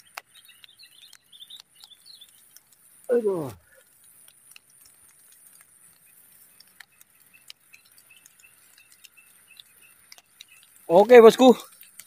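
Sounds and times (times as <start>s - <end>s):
faint ticks: 0.0s - 12.0s.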